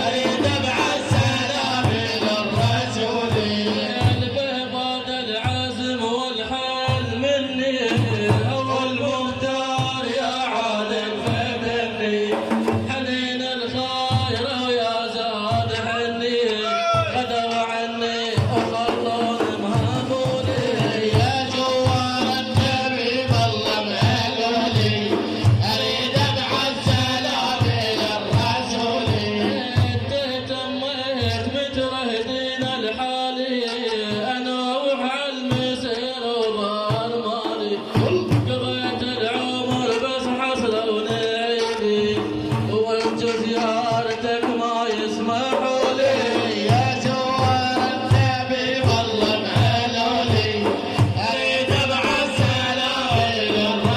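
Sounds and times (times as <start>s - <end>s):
steady drum beat: 0.0s - 5.9s, 6.7s - 16.1s, 18.2s - 31.9s, 35.5s - 53.9s.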